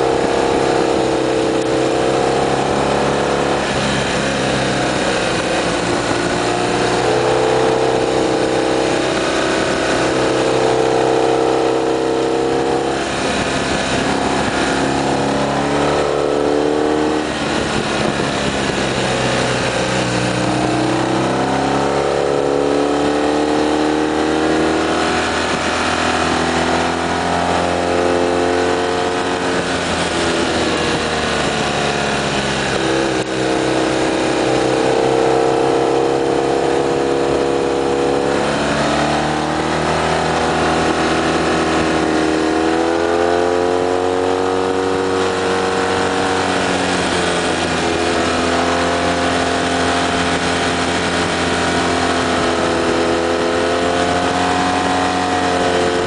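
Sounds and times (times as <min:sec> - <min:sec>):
motorcycle engine running: 0:00.0 - 0:56.0
wind rushing on microphone: 0:00.0 - 0:56.0.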